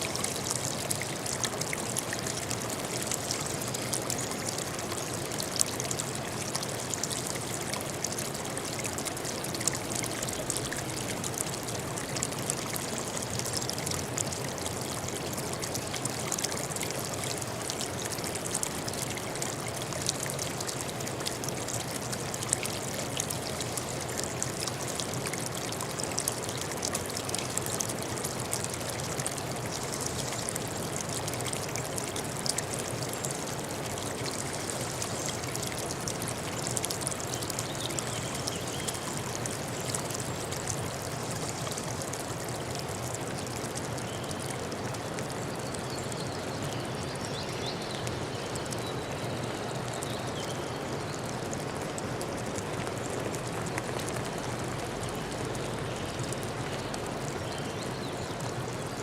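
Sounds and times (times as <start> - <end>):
water flowing: 0.0 - 59.0.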